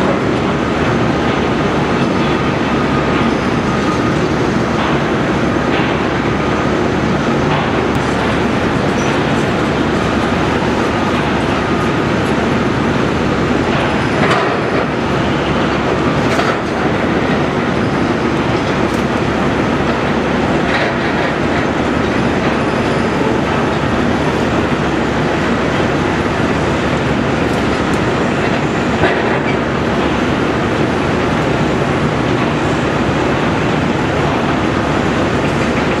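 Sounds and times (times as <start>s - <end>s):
tracked excavators clanking: 0.0s - 36.0s.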